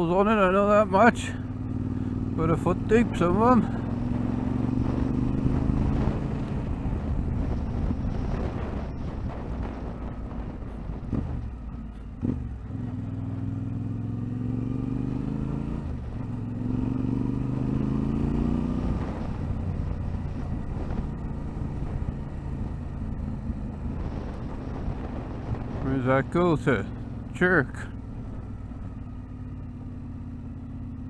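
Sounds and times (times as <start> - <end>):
road rumble: 0.0 - 31.0.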